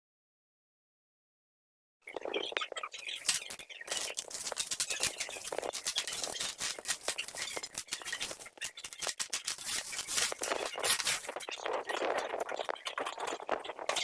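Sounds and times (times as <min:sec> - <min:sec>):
packaging crackling and rustling: 0:02.2 - 0:14.0.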